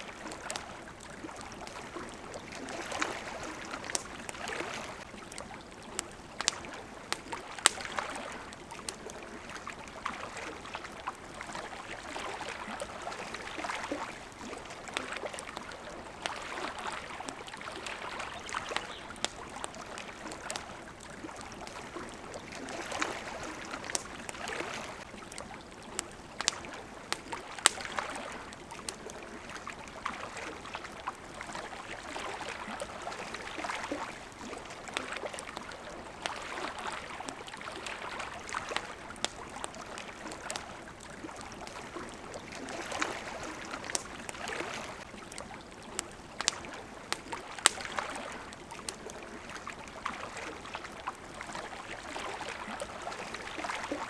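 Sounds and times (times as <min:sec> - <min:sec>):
campfire pops and crackles: 0:00.0 - 0:54.0
small waves lapping at shore: 0:00.0 - 0:54.0.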